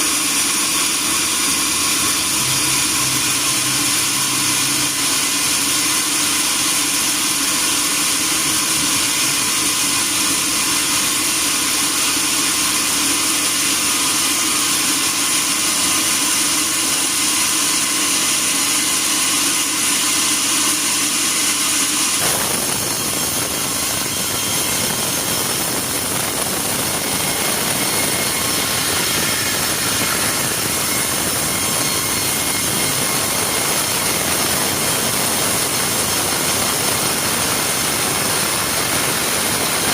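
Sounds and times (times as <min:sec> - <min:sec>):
sawmill saw hissing: 0:00.0 - 0:39.9.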